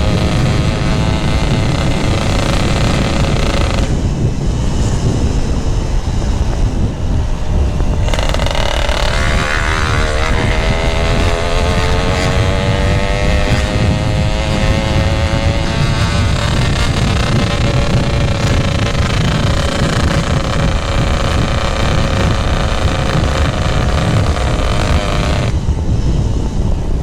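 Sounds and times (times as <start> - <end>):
motorcycle engine accelerating: 0.0 - 27.0
wind buffeting microphone: 0.0 - 27.0.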